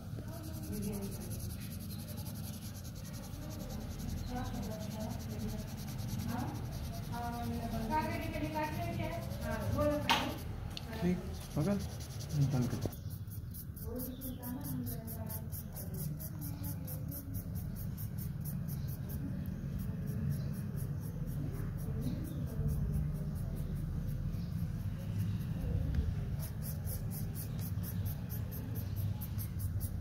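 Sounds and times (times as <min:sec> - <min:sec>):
pen scratching on paper: 0:00.0 - 0:30.0.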